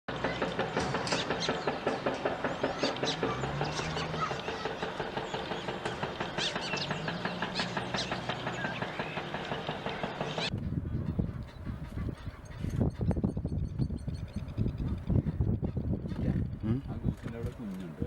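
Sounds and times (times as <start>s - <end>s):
fast pulsing bird chattering: 0.1s - 17.2s
birds chirping: 0.1s - 18.0s.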